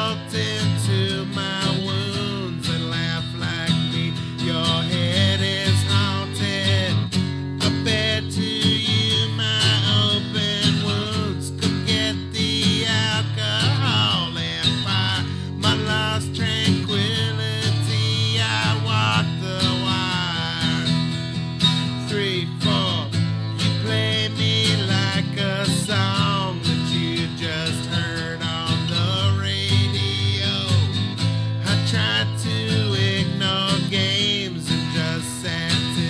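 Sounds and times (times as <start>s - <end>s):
guitar: 0.0s - 36.0s
man singing: 0.0s - 36.0s.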